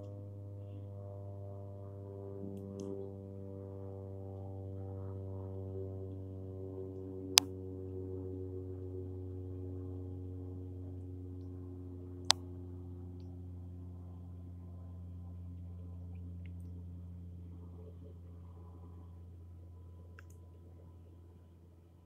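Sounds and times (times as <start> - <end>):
propeller plane droning overhead: 0.0 - 22.0.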